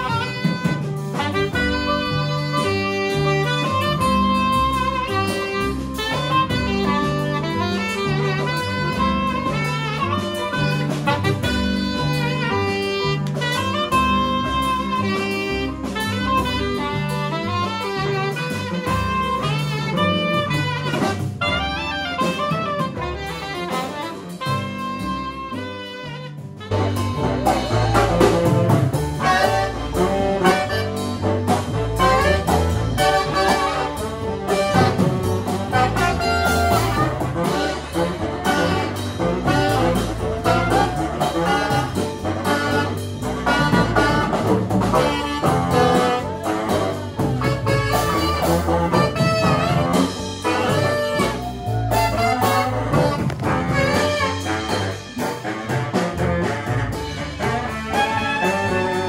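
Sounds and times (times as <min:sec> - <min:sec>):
busy percussion: 0:00.0 - 0:59.0
piano: 0:00.0 - 0:59.0
saxophones: 0:00.0 - 0:59.0
walking double bass: 0:00.0 - 0:59.0.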